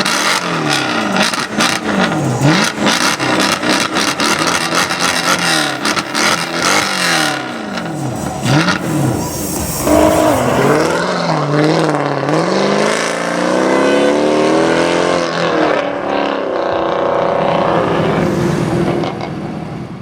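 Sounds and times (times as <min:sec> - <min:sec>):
car exhaust under acceleration: 0:00.0 - 0:20.0.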